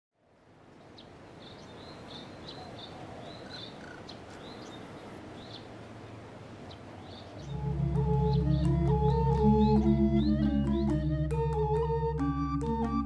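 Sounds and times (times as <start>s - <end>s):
outdoor ambience: 0.2s - 13.0s
birds chirping: 0.7s - 13.0s.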